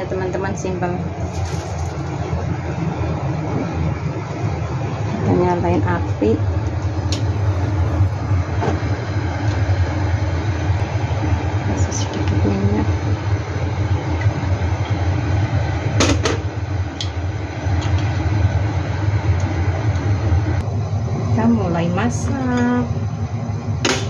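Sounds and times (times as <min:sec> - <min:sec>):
gas burner low rumble: 0:00.0 - 0:24.0.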